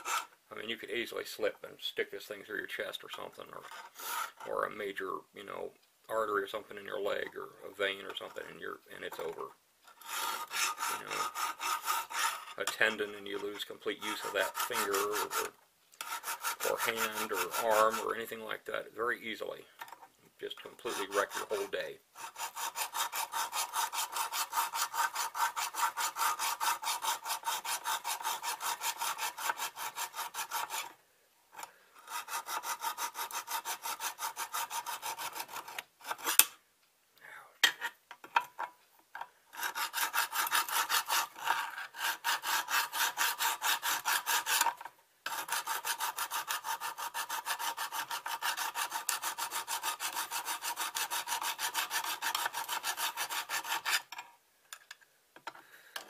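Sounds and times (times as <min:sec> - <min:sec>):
hand file scraping steel: 0:00.0 - 0:00.4, 0:03.1 - 0:04.8, 0:06.5 - 0:18.8, 0:20.4 - 0:36.5, 0:39.5 - 0:54.3.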